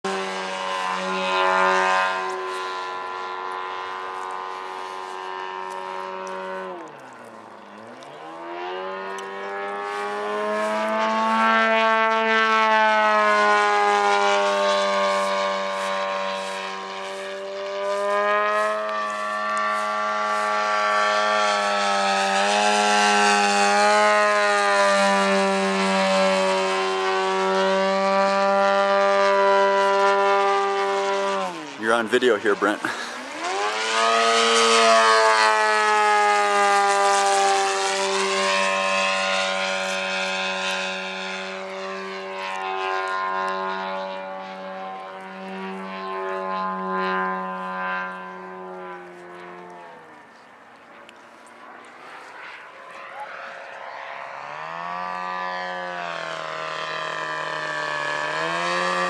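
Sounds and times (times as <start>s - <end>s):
model airplane engine: 0.0s - 59.0s.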